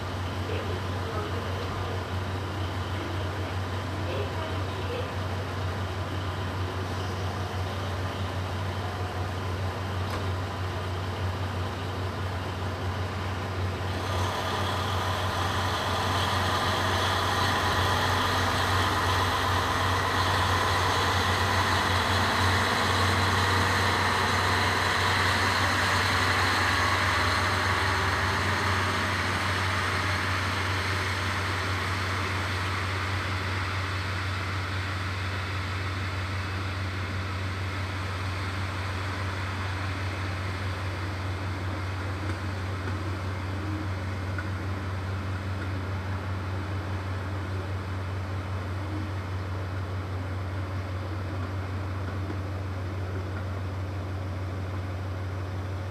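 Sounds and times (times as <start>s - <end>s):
diesel train passing: 0.0s - 55.9s
steady low hum: 0.0s - 55.9s.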